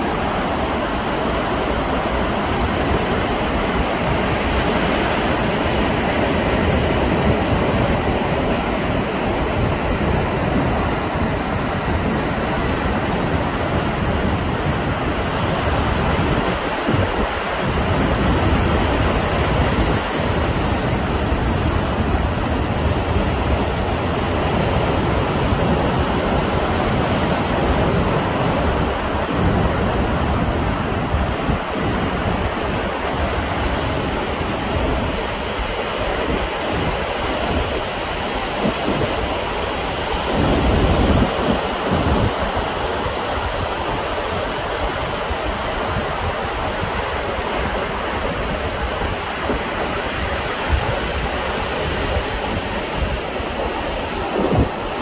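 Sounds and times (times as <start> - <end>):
sea surf rushing: 0.0 - 55.0
wind buffeting microphone: 0.0 - 55.0.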